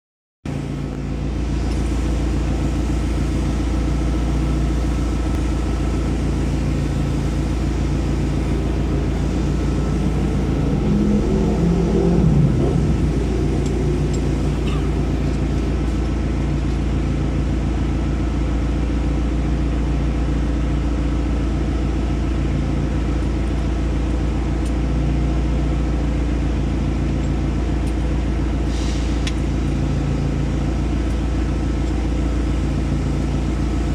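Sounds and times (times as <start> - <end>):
engine idling: 0.5 - 33.9.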